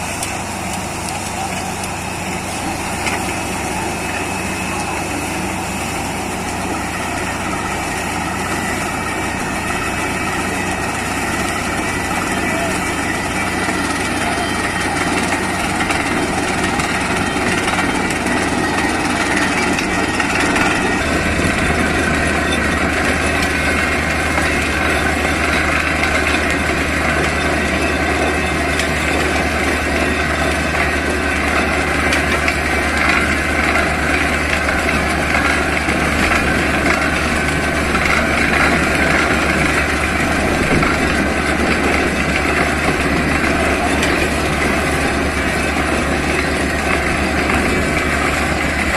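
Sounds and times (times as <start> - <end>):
drilling rig engine and compressor: 0.0 - 48.9.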